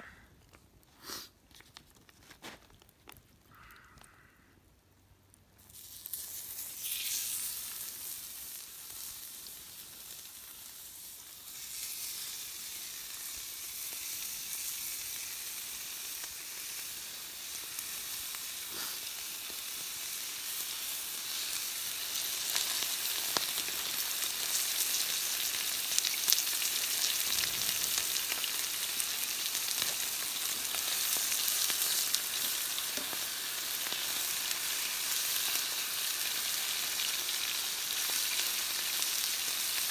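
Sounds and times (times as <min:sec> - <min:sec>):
meat sizzling in a pan: 0:05.6 - 0:39.9.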